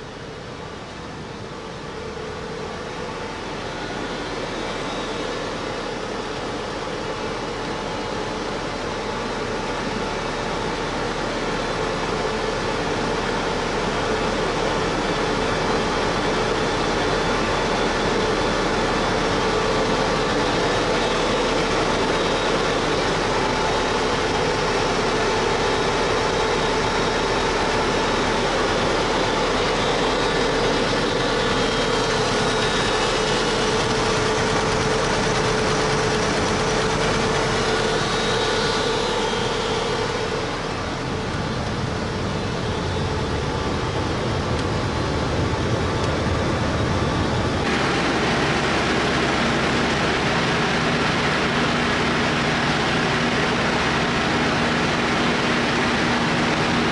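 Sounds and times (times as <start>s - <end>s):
helicopter engine running: 0.0s - 56.9s.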